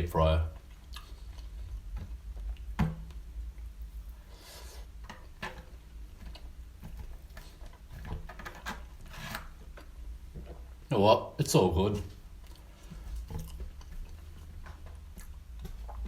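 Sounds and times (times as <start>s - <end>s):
low steady hum: 0.0s - 16.0s
person chewing food: 0.5s - 10.8s, 12.2s - 16.0s.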